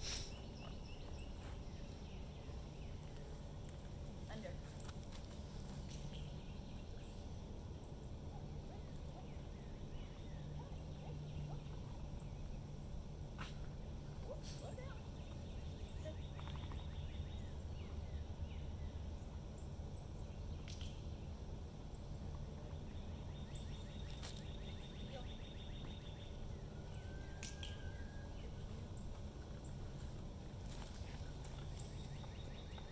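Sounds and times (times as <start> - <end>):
small birds chirping: 0.0 - 32.9
steady low hum: 0.0 - 32.9.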